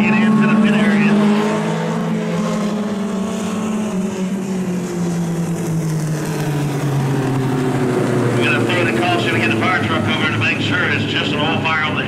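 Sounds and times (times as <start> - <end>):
race car engines winding down: 0.0 - 12.0.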